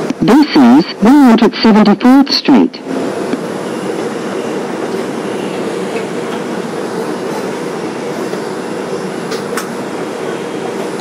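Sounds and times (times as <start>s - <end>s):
subway car rumble and hum: 0.0s - 11.0s.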